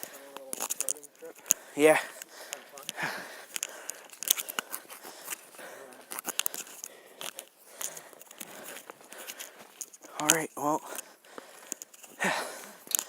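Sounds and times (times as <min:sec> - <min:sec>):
footsteps crunching on forest floor: 0:00.0 - 0:13.0.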